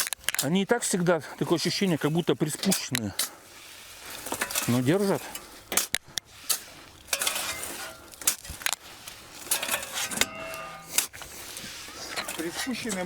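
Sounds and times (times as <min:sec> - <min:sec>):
shovels scraping gravel: 0:00.0 - 0:13.0.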